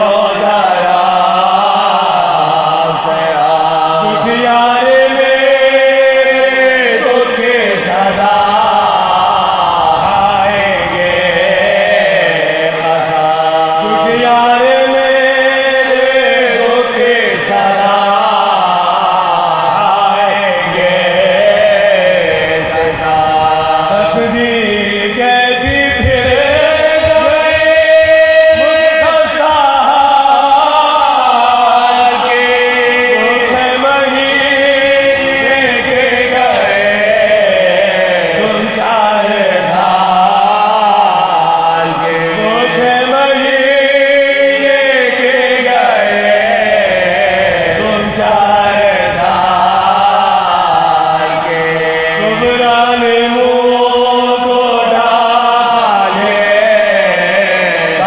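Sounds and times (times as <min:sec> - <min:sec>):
men chanting elegy: 0:00.0 - 0:58.0.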